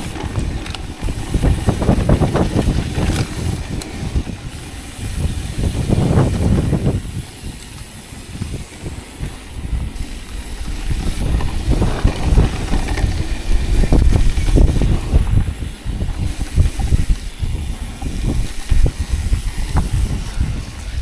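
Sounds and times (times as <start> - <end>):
bike knocking and rattling: 0.0 - 21.0
bike tyre rumble on dirt: 0.0 - 21.0.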